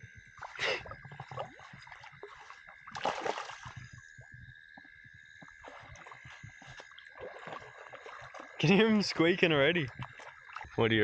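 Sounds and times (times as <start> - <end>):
water splashing: 0.4 - 4.0, 5.6 - 11.0.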